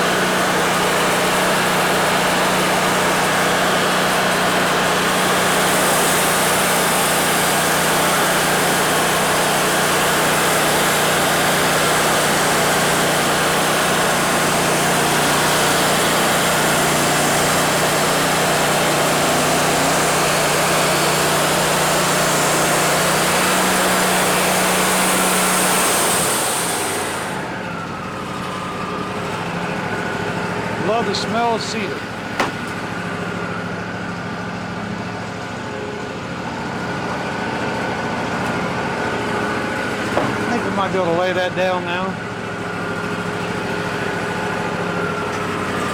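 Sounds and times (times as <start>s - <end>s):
sawmill engine drone: 0.0s - 45.9s.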